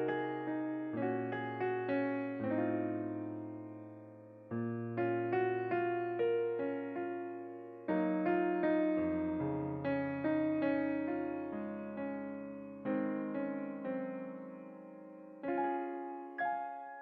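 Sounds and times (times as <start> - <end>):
slow gentle piano melody: 0.0 - 17.0.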